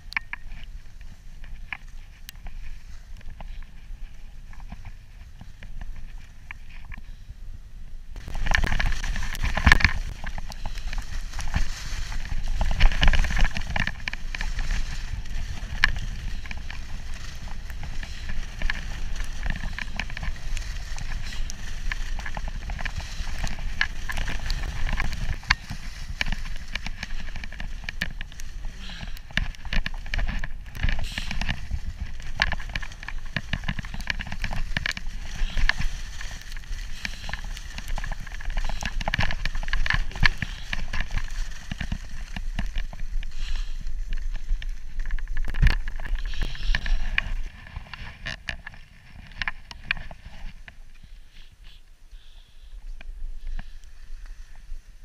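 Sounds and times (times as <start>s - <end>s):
skis scraping on snow: 0.0s - 7.3s, 8.2s - 55.0s
wind rumbling on microphone: 0.0s - 55.0s.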